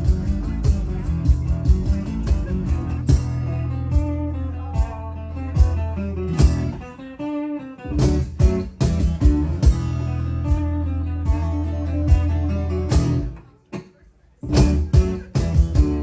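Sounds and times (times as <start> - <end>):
acoustic guitars strumming chords: 0.0 - 16.0.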